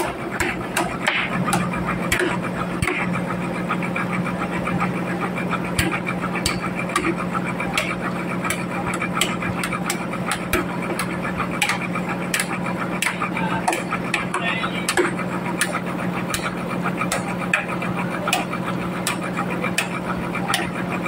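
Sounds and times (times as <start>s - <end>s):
sharp clicks and knocks: 0.0s - 3.2s, 5.7s - 21.0s
sawmill machinery humming: 0.0s - 21.0s.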